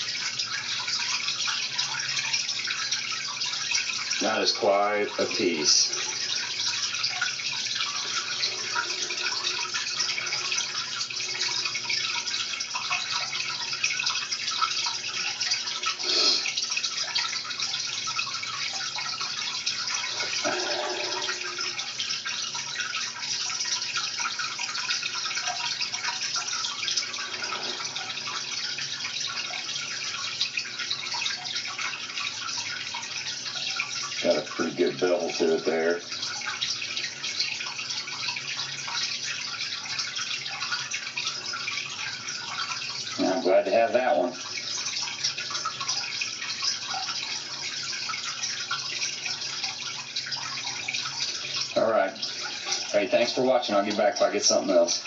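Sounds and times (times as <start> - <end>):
creek water trickling: 0.0 - 55.0.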